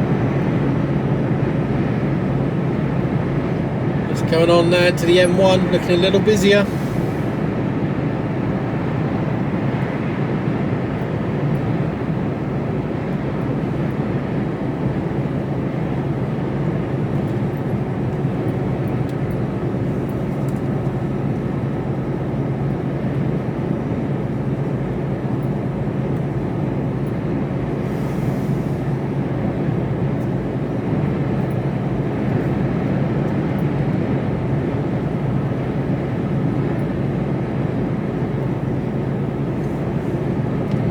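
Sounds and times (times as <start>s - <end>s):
lorry engine hum: 0.0s - 40.9s.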